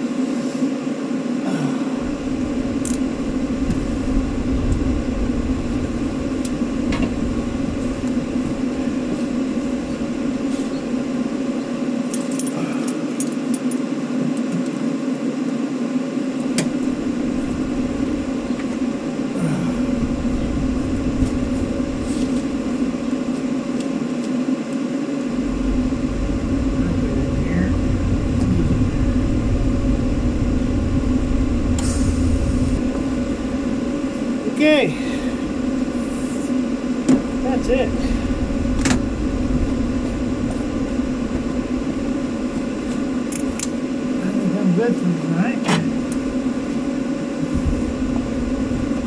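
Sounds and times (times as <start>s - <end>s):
steady mechanical hum: 0.0s - 49.0s
low rumble: 1.9s - 12.0s, 16.7s - 23.8s, 25.1s - 44.6s, 45.9s - 49.0s.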